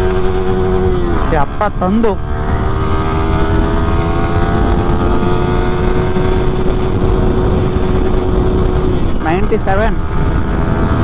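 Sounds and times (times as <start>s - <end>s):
motorcycle engine accelerating: 0.0s - 11.0s
wind noise: 0.0s - 11.0s.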